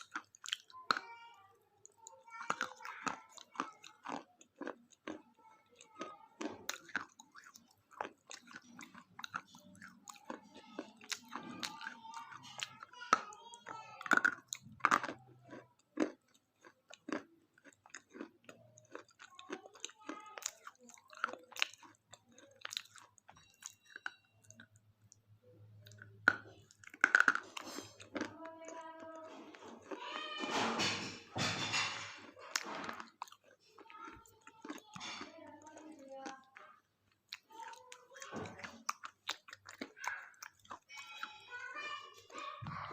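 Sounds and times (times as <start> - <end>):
chewing and crunching wafer bar: 0.0 - 42.9.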